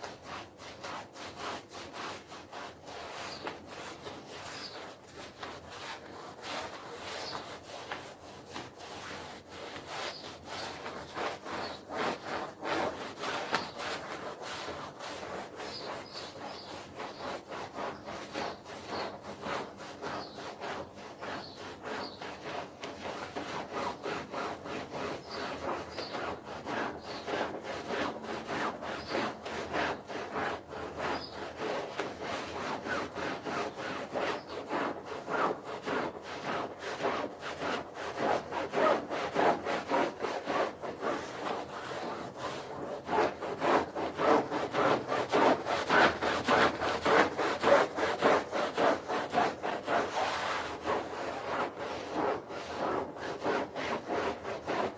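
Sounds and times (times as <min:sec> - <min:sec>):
brush scrubbing wet carpet: 0:00.0 - 0:54.9.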